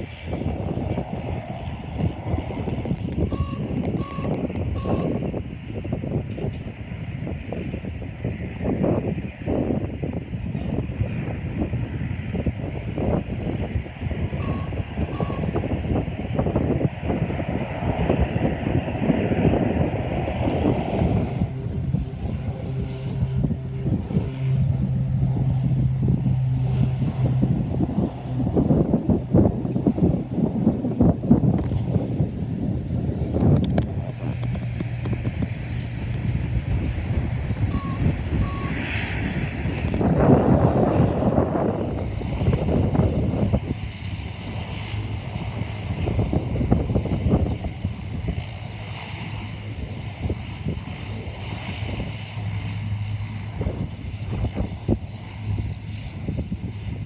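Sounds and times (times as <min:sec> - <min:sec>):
steady engine hum: 0:00.0 - 0:57.0
wind buffeting microphone: 0:00.0 - 0:57.0.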